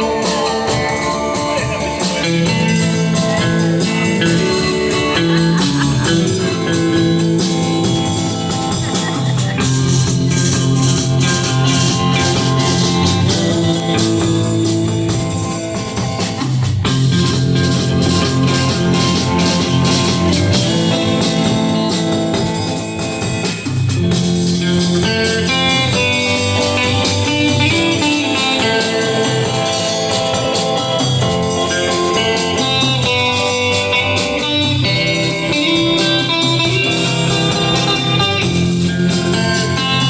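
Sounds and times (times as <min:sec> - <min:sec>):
bass: 0:00.0 - 0:40.0
drum kit: 0:00.0 - 0:40.0
electric guitar melody: 0:00.0 - 0:40.0.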